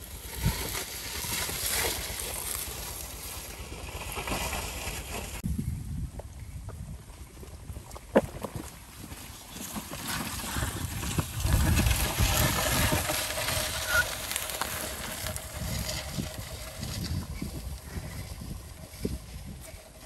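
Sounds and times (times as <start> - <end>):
bamboo poles dragged on dirt: 0.0 - 20.0.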